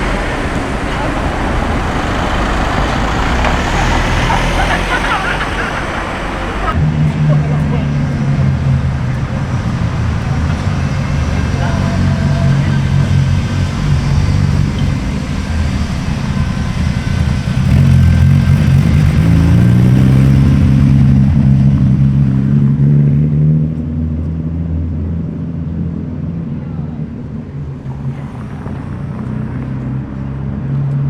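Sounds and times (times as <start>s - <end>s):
car engine accelerating past: 0.0s - 31.0s.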